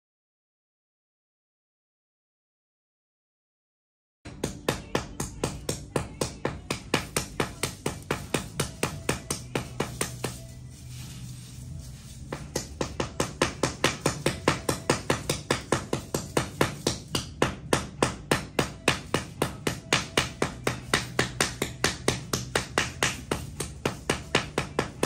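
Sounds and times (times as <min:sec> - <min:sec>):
hammer striking beaded fabric: 0:04.3 - 0:25.0.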